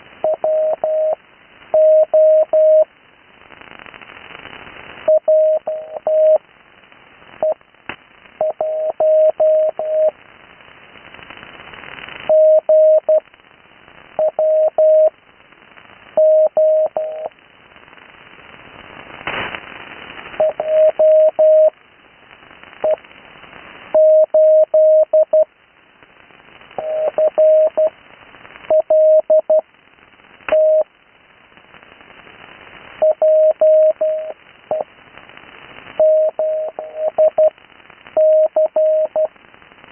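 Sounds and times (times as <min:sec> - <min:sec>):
radio band noise hiss: 0:00.0 - 0:39.9
static crackles: 0:00.0 - 0:39.9.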